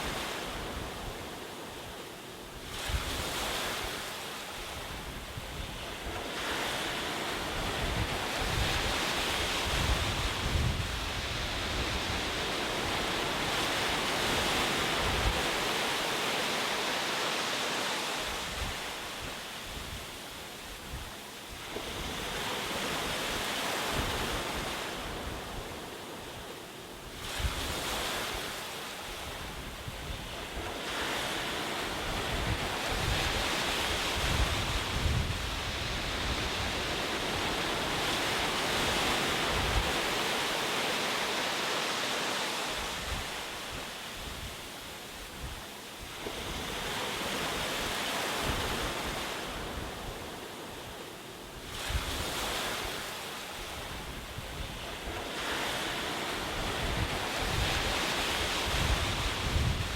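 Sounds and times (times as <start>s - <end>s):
wind on microphone: 0.0s - 16.2s, 18.2s - 40.8s, 42.5s - 50.9s, 51.5s - 59.9s
ocean waves breaking on shore: 0.0s - 59.9s.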